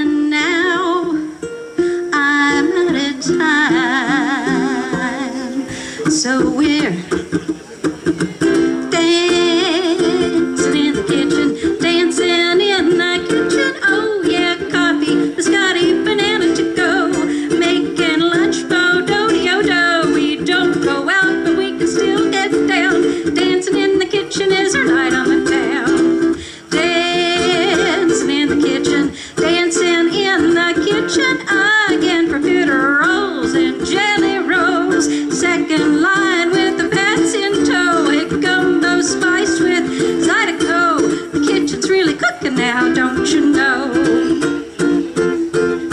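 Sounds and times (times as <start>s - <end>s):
person singing: 0.0s - 7.4s, 8.1s - 45.9s
ukulele strumming: 0.0s - 45.9s.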